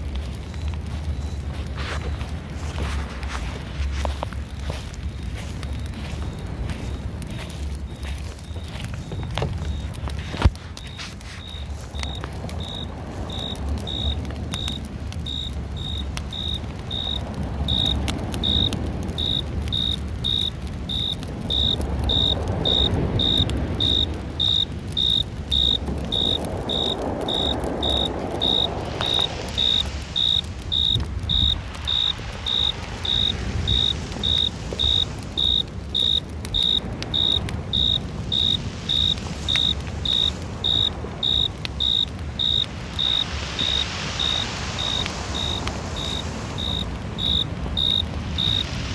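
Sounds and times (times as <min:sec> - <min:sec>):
cricket chirping: 0:04.1 - 0:48.9.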